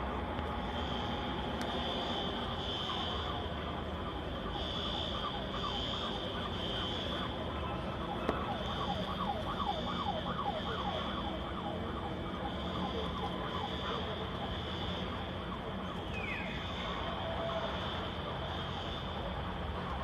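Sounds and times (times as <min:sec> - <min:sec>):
electronic siren sweeps: 0:00.6 - 0:20.0.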